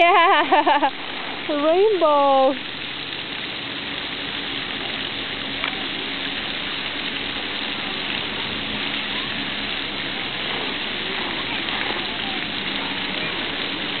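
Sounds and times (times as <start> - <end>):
water spraying onto concrete: 0.0 - 14.0.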